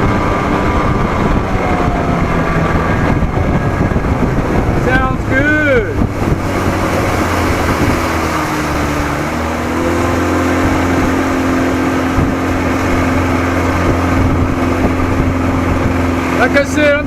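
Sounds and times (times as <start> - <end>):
outboard motor running: 0.0 - 17.0
water noise: 0.0 - 17.0
wind: 0.0 - 17.0.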